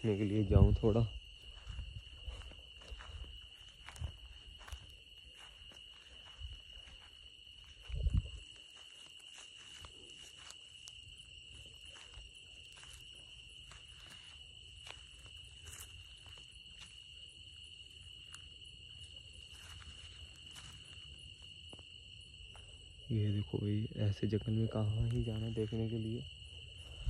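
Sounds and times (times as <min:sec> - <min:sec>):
crickets chirping chorus: 0:00.0 - 0:27.0.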